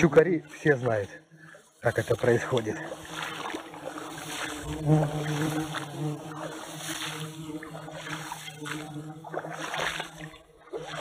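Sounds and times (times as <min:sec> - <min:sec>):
footsteps swishing through tall grass: 0:01.6 - 0:11.0.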